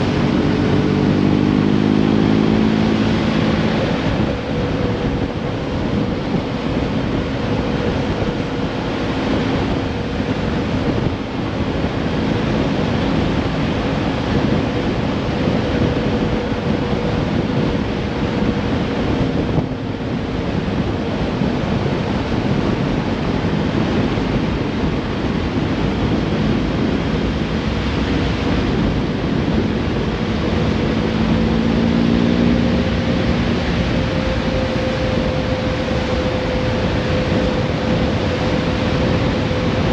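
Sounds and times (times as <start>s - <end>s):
faint engine hum: 0.0s - 39.9s
wind and road noise: 0.0s - 39.9s.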